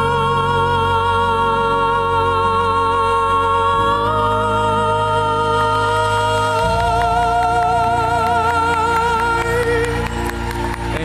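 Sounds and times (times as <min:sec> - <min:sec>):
man and woman singing duet: 0:00.0 - 0:11.0.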